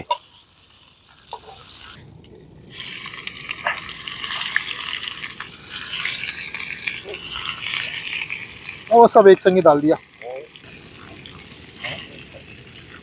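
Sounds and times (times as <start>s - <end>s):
fish sizzling in hot oil: 0.0s - 13.0s
oil popping: 0.0s - 13.0s.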